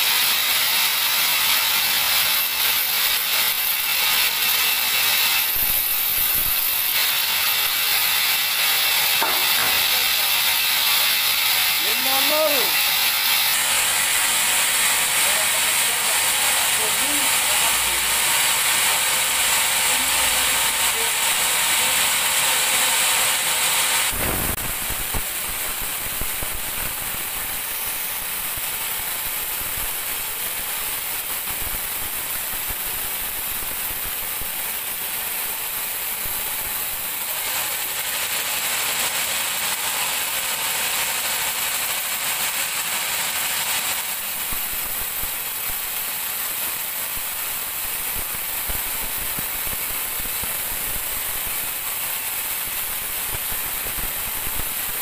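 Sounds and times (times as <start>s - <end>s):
band saw cutting log: 0.0s - 47.2s.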